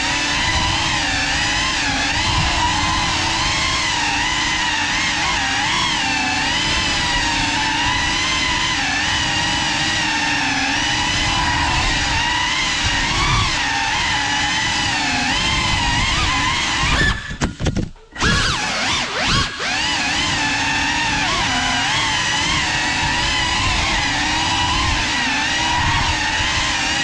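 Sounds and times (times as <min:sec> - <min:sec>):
drone buzzing whine: 0:00.0 - 0:27.0.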